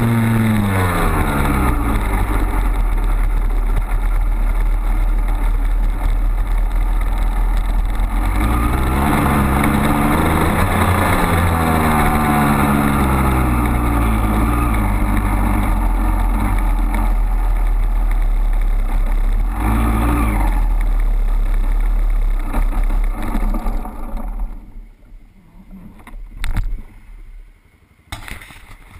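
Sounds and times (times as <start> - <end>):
dirt bike engine: 0.0 - 28.9.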